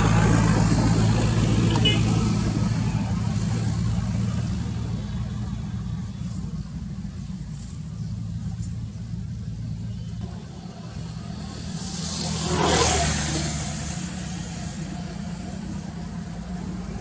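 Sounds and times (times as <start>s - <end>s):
motor vehicle passing by: 0.0s - 7.8s, 9.3s - 17.0s
low engine hum: 0.0s - 17.0s.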